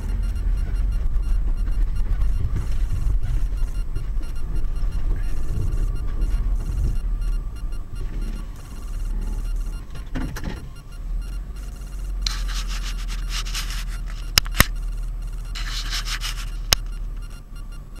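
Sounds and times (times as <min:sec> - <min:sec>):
rubbing scraping noise: 0:00.0 - 0:17.1
car idling: 0:00.0 - 0:18.0
sharp clicks: 0:00.0 - 0:18.0.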